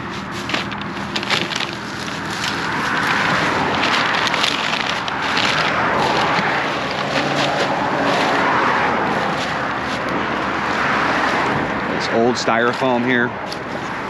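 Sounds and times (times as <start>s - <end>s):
close crackles: 0.0s - 11.8s
road traffic tyre noise: 0.0s - 14.0s.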